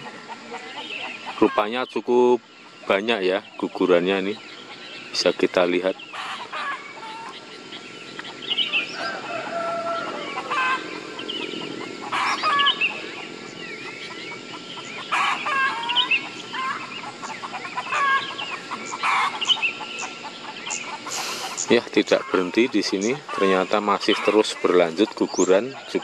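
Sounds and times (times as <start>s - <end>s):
chickens clucking: 0.0s - 26.0s
low background noise: 0.0s - 26.0s
small birds chirping: 0.0s - 26.0s.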